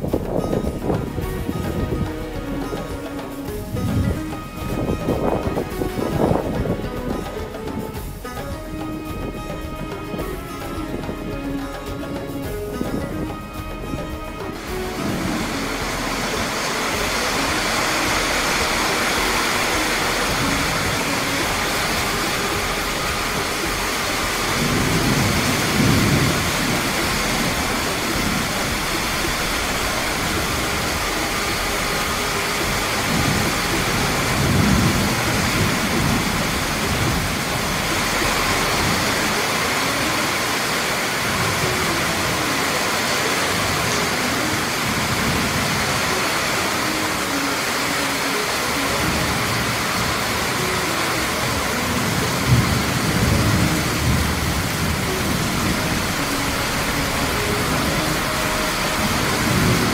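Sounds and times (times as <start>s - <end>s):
gusty wind: 0.0s - 59.9s
torrential rain pouring: 0.0s - 59.9s.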